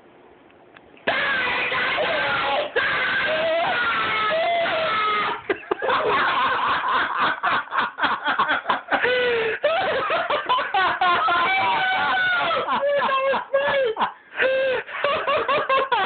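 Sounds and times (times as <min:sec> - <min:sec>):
young man laughing hard: 0:01.1 - 0:16.0.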